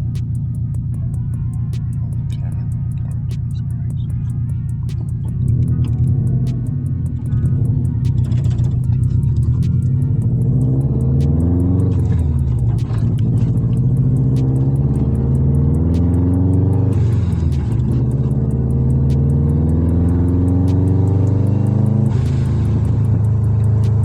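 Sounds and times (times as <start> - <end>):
car exhaust under hard acceleration: 0.0 - 24.0.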